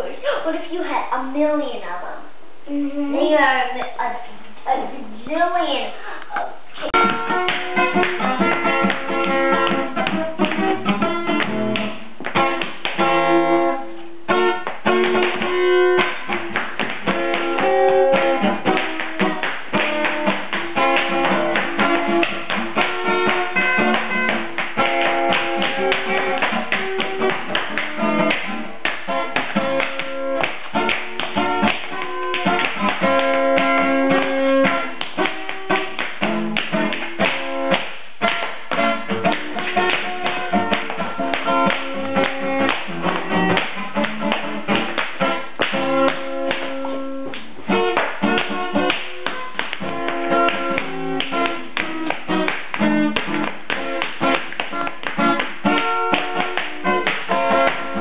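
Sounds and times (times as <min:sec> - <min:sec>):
tap shoes on hardwood floor: 0:06.4 - 0:13.6, 0:14.3 - 0:58.0
music: 0:06.9 - 0:58.0.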